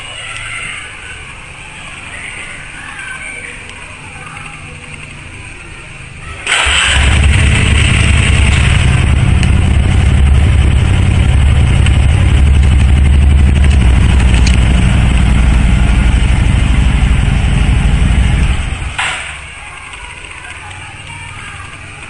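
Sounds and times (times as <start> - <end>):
small motorcycle engine idling: 0.0 - 22.0.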